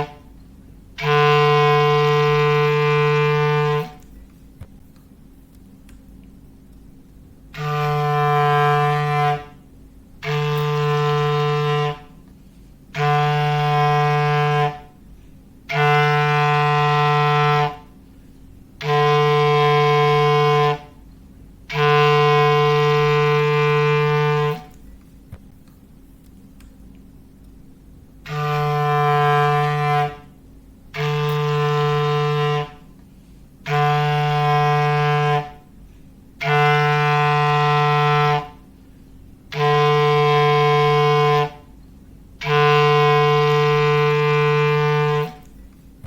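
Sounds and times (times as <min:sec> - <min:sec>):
low clarinet blasts: 0:00.0 - 0:04.2, 0:07.4 - 0:24.8, 0:28.2 - 0:38.8, 0:39.4 - 0:45.6.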